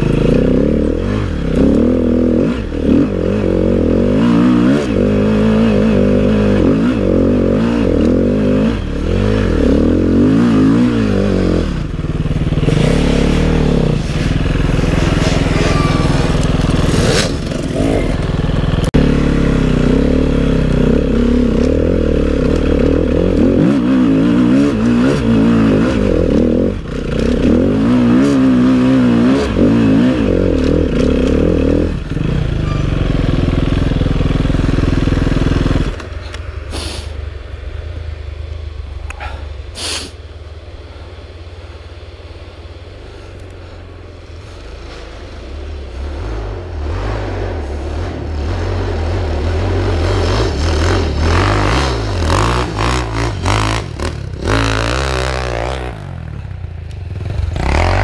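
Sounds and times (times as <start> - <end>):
dirt bike engine revving: 0.0 - 38.0, 38.6 - 58.0.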